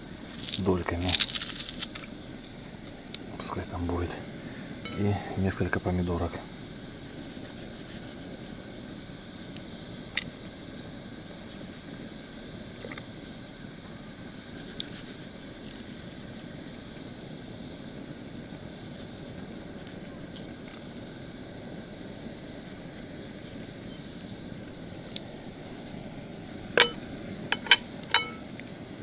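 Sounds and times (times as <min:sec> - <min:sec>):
gas stove burner hissing: 0:00.0 - 0:29.0.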